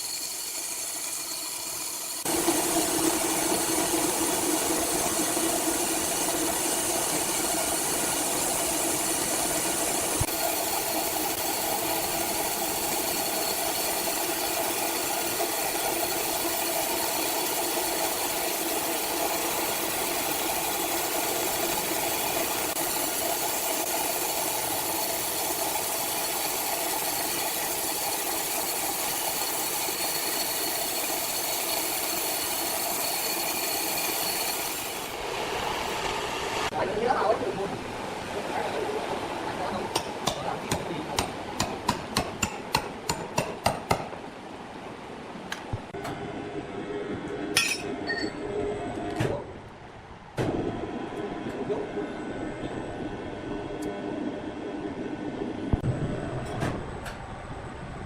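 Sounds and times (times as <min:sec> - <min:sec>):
sawmill machinery hum and whine: 0:00.0 - 0:58.0.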